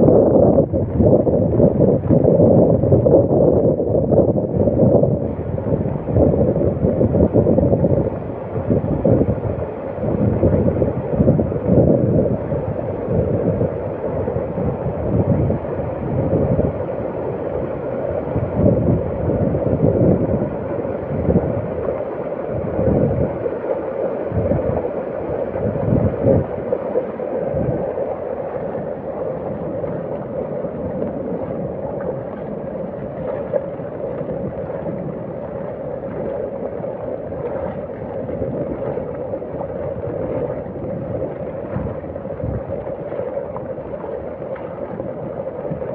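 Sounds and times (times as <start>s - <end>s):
wind buffeting microphone: 0.0s - 45.9s
floodwater rushing: 4.5s - 45.9s.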